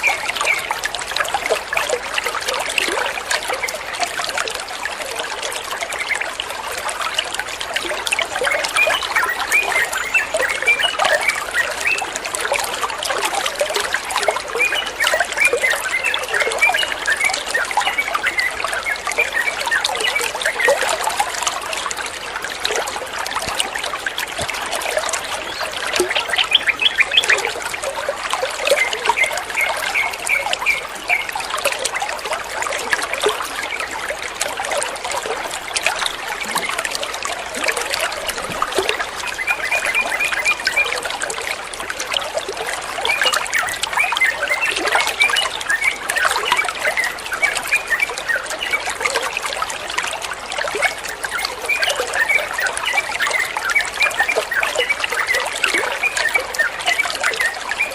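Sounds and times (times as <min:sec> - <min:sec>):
water trickling: 0:00.0 - 0:57.9.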